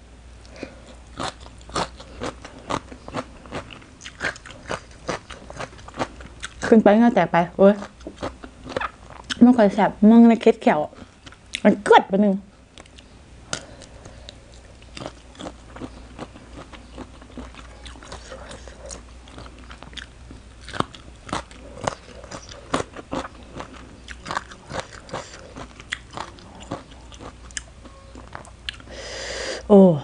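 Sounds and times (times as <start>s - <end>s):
crunchy chewing of salad: 0.4s - 9.7s, 10.6s - 11.7s, 12.6s - 29.2s.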